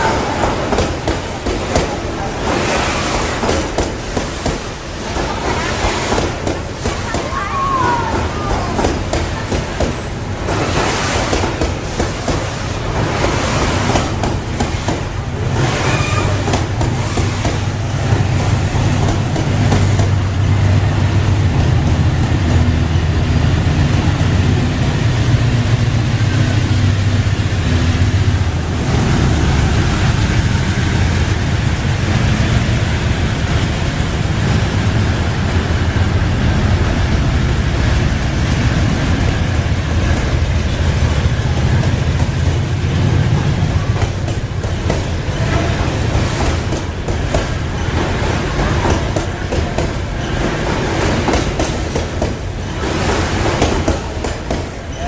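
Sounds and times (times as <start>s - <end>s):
locomotive engine roaring: 0.0s - 55.0s.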